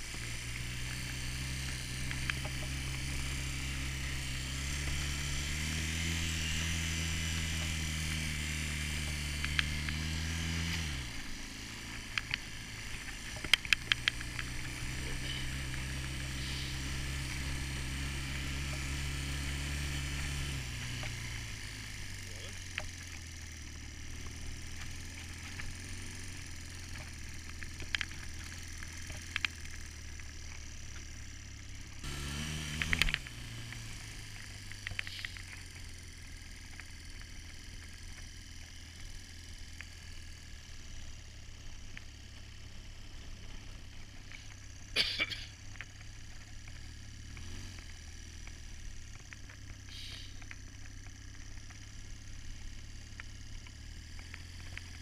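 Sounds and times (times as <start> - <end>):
off-road vehicle engine droning: 0.0 - 55.0.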